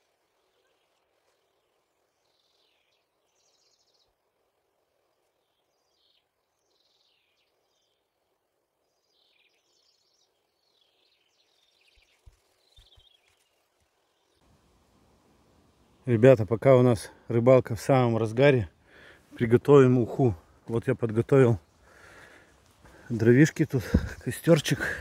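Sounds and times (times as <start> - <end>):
faint songbird singing: 0.0 - 25.0
faint steady hiss: 0.0 - 25.0.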